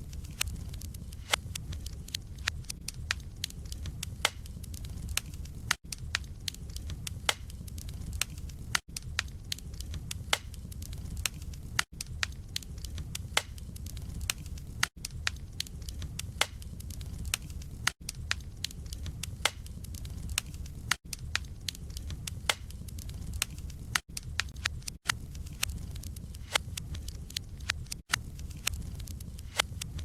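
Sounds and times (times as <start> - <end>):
logs crackling and popping: 0.0 - 30.0
low rumble of flames: 0.0 - 30.0.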